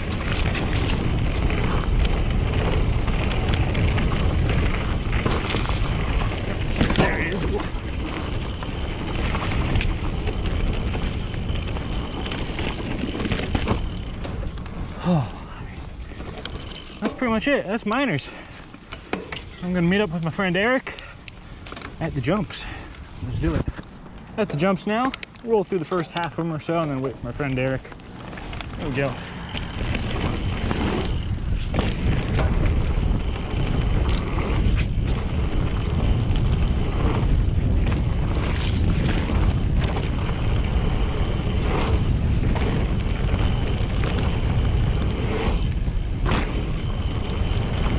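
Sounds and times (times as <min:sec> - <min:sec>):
bike clicks and rattles: 0:00.0 - 0:47.9
tyre and wind rush: 0:00.0 - 0:47.9.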